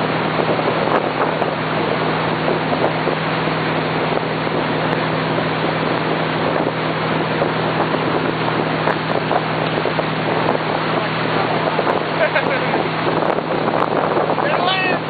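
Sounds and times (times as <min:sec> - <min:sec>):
boat engine droning: 0:00.0 - 0:15.0
rushing water: 0:00.0 - 0:15.0
wind buffeting microphone: 0:00.0 - 0:15.0.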